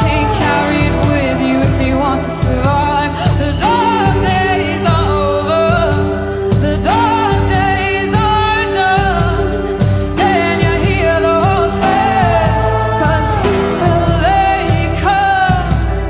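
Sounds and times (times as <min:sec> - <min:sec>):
live band music: 0:00.0 - 0:16.0
wordless singing: 0:00.0 - 0:16.0.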